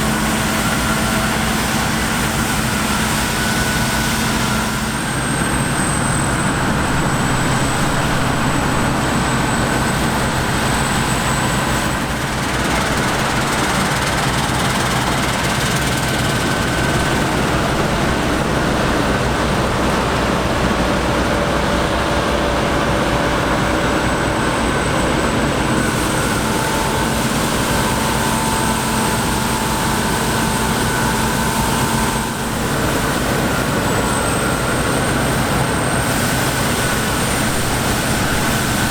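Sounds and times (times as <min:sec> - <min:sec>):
diesel engine drone: 0:00.0 - 0:38.9
high mechanical whine: 0:00.0 - 0:38.9.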